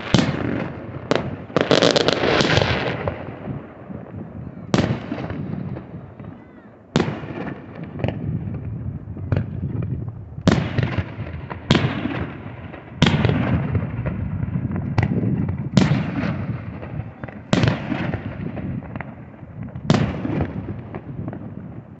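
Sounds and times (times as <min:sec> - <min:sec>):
firework cracks: 0:00.0 - 0:03.3, 0:04.7 - 0:21.6
firework booms with echo: 0:00.0 - 0:22.0.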